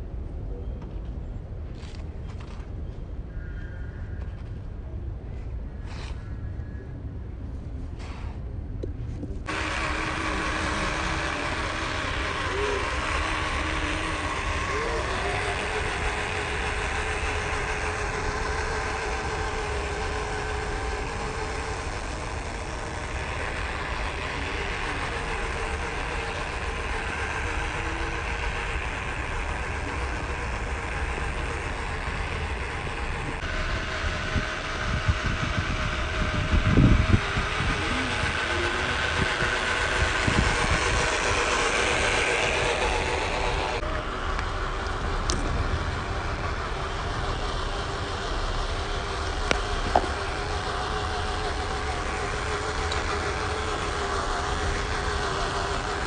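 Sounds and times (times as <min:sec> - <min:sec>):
low rumble: 0:06.5 - 0:56.0
electric motor whining: 0:09.2 - 0:56.0.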